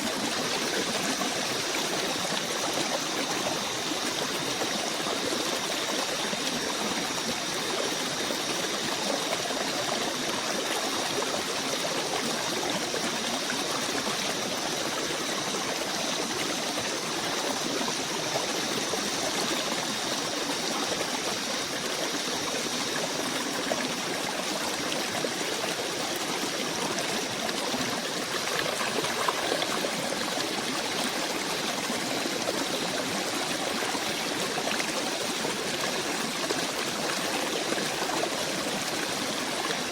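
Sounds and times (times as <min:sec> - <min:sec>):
forest stream rushing and trickling: 0:00.0 - 0:39.9.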